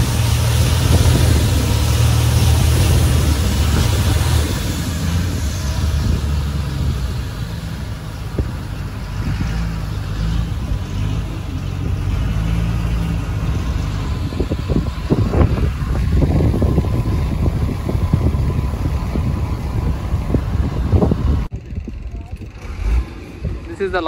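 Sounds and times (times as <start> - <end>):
water rushing along hull: 0.0 - 21.5
boat engine running: 0.0 - 24.0.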